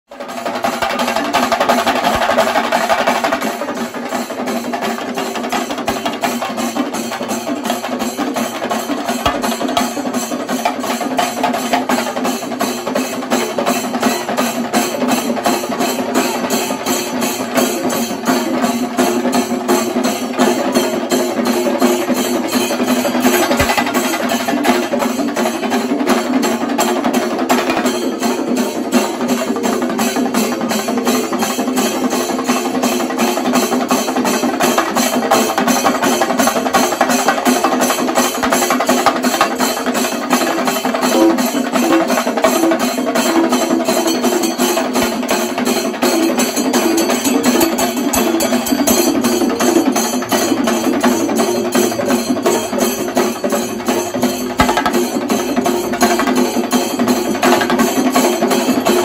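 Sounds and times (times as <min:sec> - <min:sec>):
drums beaten with sticks: 0:00.1 - 0:59.0
hand cymbals: 0:00.1 - 0:59.0.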